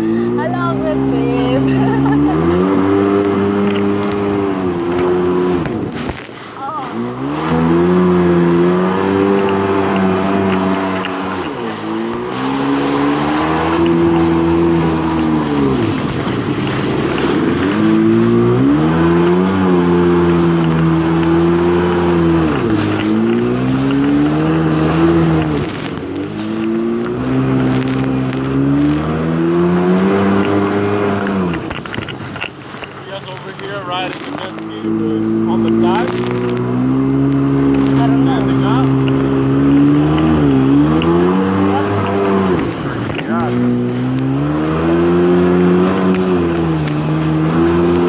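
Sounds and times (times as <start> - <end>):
jet ski engine running: 0.0 - 48.0
water rushing: 0.0 - 48.0
wind: 0.0 - 48.0.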